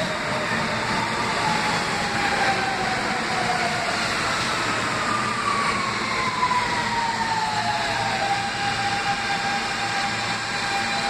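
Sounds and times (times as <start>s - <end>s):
subway train wheels rumbling: 0.0s - 11.0s
train motor whine: 0.0s - 11.0s.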